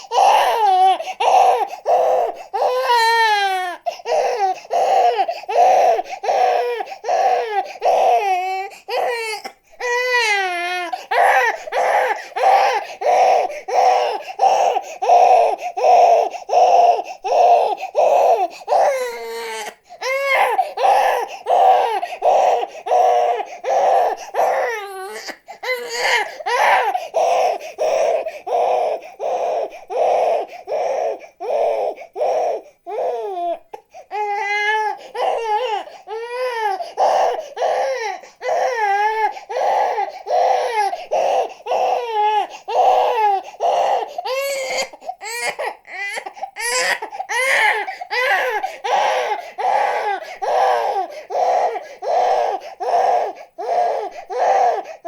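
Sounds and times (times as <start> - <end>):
infant crying: 0.0 - 55.0.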